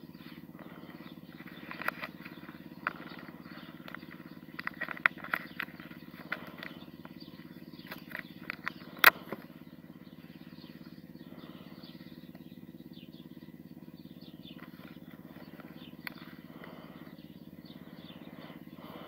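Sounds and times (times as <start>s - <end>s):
steady low drone: 0.0s - 19.0s.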